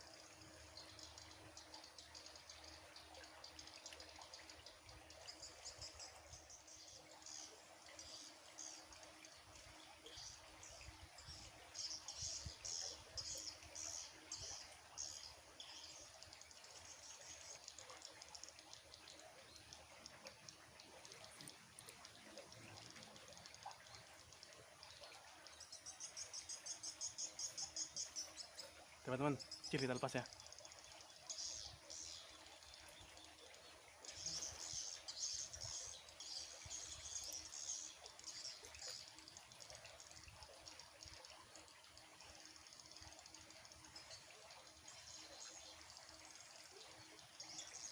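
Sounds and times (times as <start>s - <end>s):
birds chirping: 0.1s - 41.3s.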